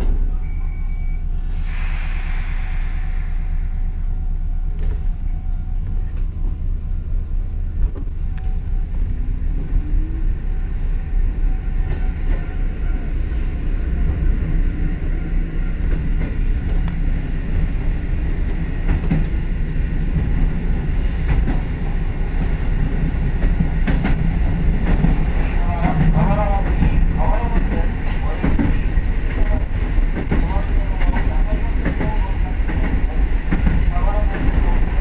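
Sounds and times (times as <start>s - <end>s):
electric train rumble and whine: 0.0s - 35.0s.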